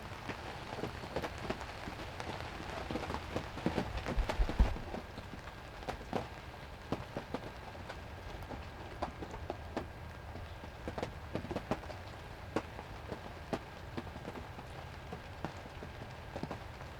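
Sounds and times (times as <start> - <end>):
large raindrops tapping: 0.0 - 16.9
rain falling: 0.0 - 16.9.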